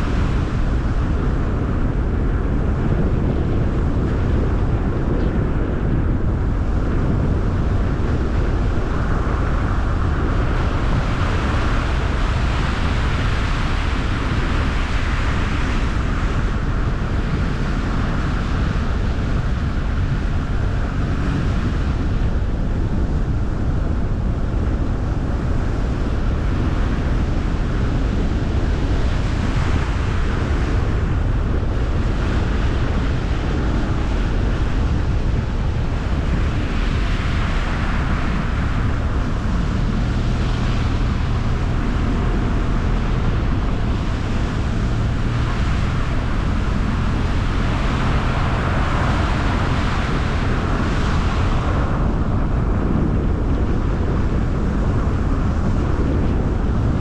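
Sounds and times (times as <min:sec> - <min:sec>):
wind rushing past: 0:00.0 - 0:57.0.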